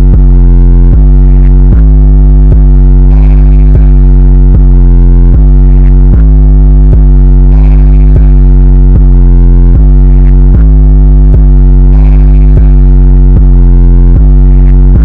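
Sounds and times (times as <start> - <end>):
distorted synthesizer music: 0.0 - 15.0.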